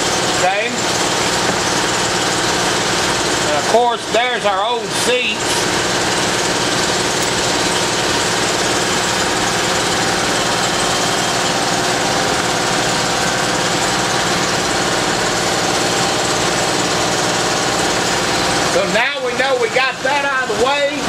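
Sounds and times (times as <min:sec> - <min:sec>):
machine motor humming: 0:00.0 - 0:21.0.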